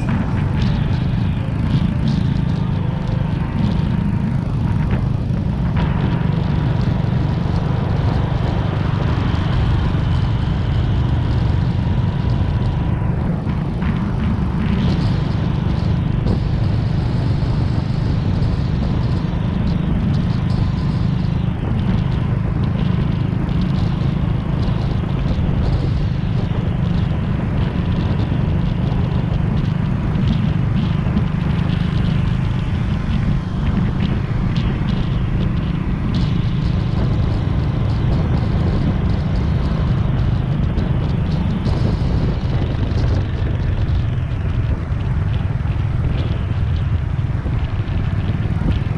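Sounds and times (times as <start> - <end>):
motorcycle engine drone: 0.0 - 48.9
wind rumble on microphone: 0.0 - 48.9.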